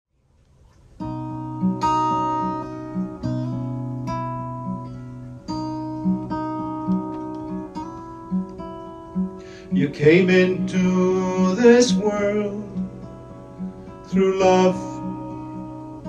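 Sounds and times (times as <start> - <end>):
acoustic guitar chords: 0.6 - 16.0.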